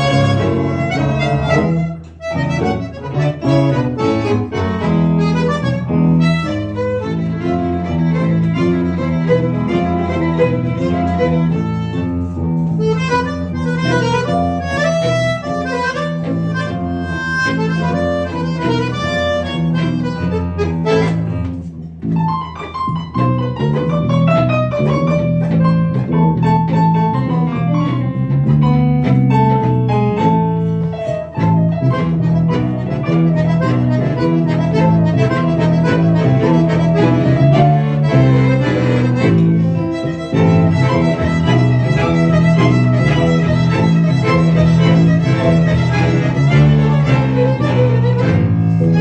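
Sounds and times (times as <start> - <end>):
accordion playing: 0.0 - 49.0.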